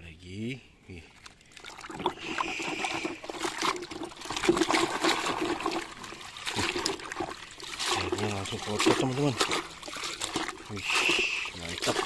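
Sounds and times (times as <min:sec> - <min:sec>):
sloshing and splashing water: 0:01.1 - 0:12.0.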